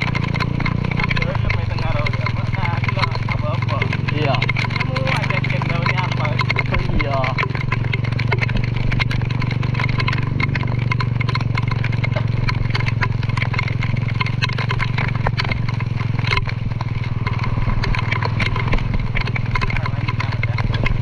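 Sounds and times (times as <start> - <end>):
short rattling clicks: 0.0 - 21.0
small engine running: 0.0 - 21.0.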